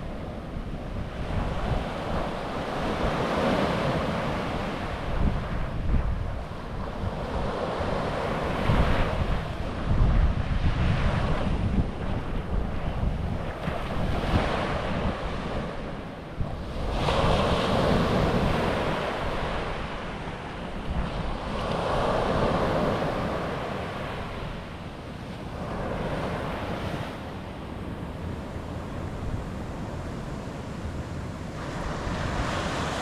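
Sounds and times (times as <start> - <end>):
ocean surf breaking on beach: 0.0 - 33.0
wind buffeting microphone: 0.0 - 33.0.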